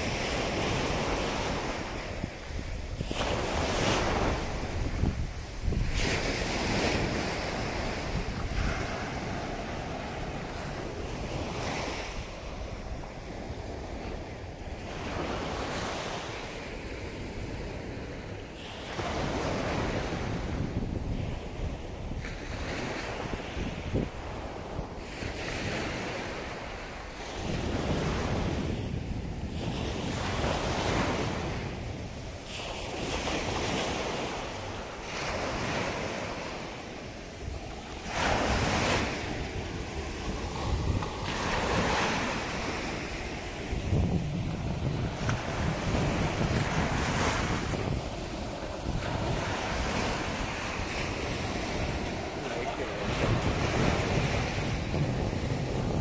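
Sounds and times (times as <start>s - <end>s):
waves breaking on beach: 0.0s - 56.0s
wind rumbling on microphone: 0.0s - 56.0s.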